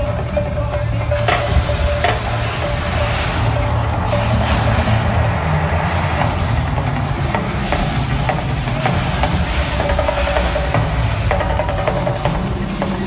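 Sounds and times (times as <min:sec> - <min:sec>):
gas fire jets rushing: 0:00.0 - 0:13.0.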